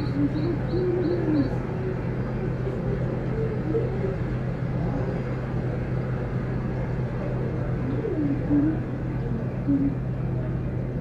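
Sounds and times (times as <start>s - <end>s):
low indoor hum: 0.0s - 11.0s
murmur of distant voices: 0.0s - 11.0s.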